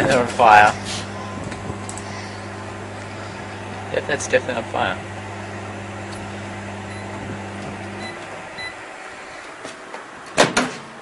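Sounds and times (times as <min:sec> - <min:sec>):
microwave oven humming: 0:00.0 - 0:09.7.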